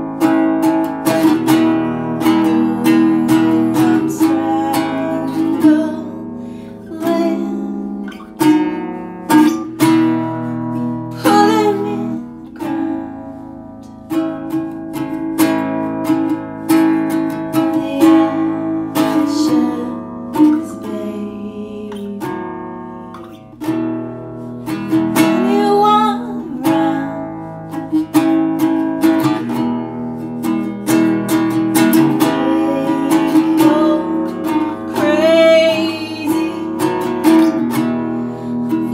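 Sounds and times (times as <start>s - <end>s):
acoustic guitar strumming and picking: 0.0s - 38.9s.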